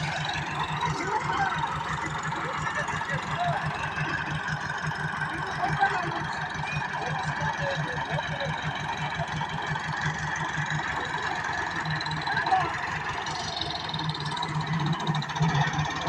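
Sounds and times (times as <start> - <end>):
tractor diesel engine chugging: 0.0 - 16.0.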